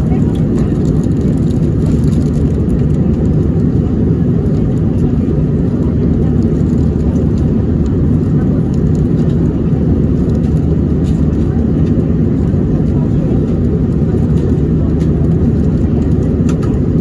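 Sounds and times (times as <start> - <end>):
airliner cabin noise: 0.0 - 17.0.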